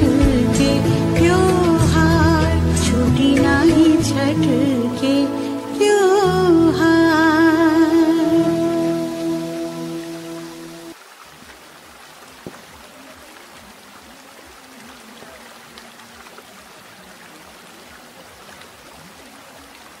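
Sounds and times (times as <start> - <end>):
water trickling: 2.9 - 20.0.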